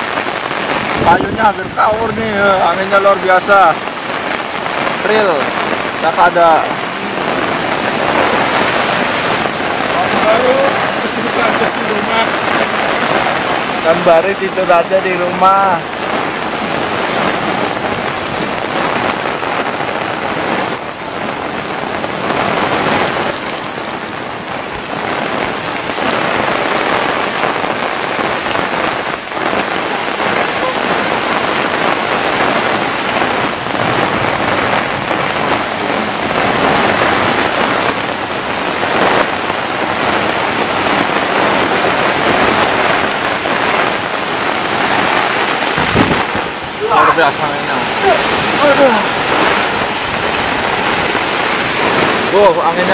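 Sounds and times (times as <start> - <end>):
heavy rain on umbrella and ground: 0.0 - 52.9.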